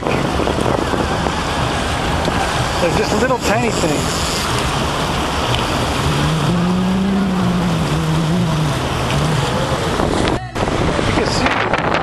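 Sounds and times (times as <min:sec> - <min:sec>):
boat engine humming: 0:00.0 - 0:12.0
wind and water rushing: 0:00.0 - 0:12.0.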